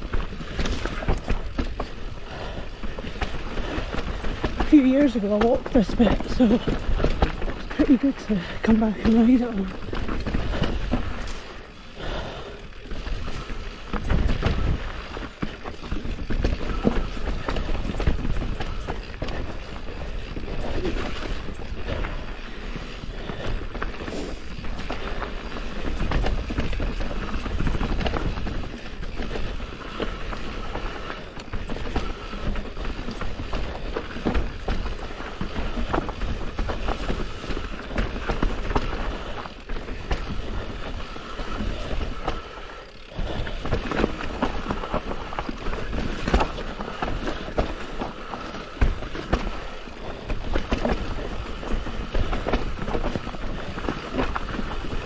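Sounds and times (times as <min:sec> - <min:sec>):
bike rattling and knocking: 0:00.0 - 0:55.0
bike tyres rumbling on dirt: 0:00.0 - 0:55.0.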